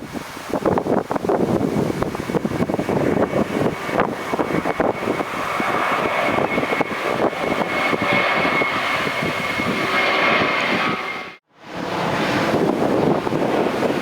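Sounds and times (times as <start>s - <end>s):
wind buffeting microphone: 0.0s - 14.0s
airliner engines roaring: 0.2s - 14.0s.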